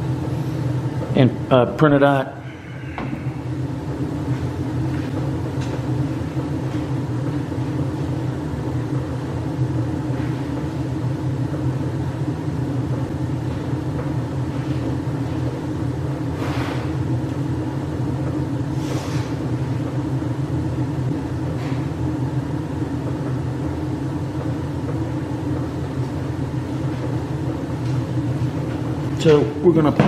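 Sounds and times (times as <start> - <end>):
gas boiler burner rumbling: 0.0 - 30.0.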